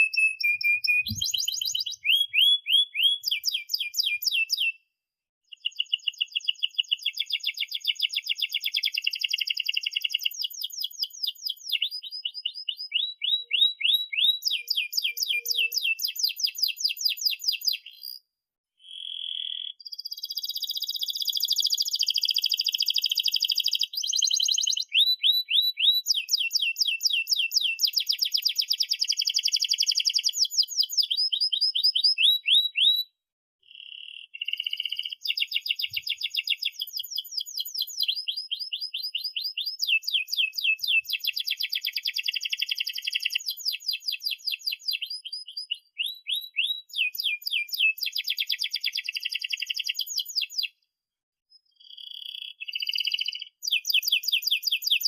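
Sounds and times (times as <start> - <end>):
canary singing: 0.0 - 4.8, 5.5 - 18.2, 18.8 - 33.1, 33.7 - 50.8, 51.6 - 55.0.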